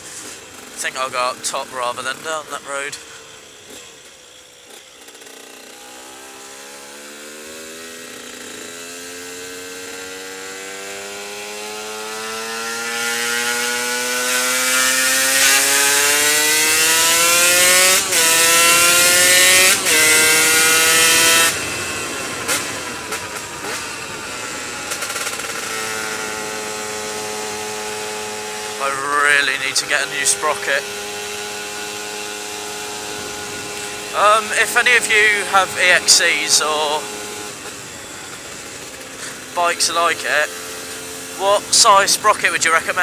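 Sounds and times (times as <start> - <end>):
two-stroke engine accelerating: 0.0 - 43.0.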